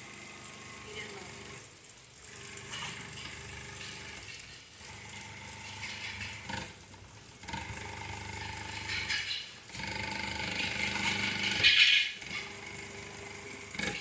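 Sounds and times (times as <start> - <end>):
sewing machine stitching rapidly: 2.6 - 14.0.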